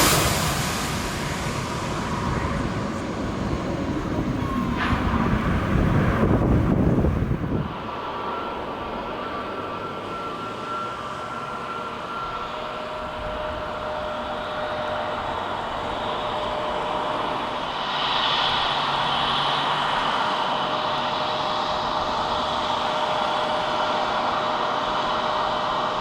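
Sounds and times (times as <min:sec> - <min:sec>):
rushing noise: 0:00.0 - 0:25.9
jet engines whining: 0:00.0 - 0:26.0.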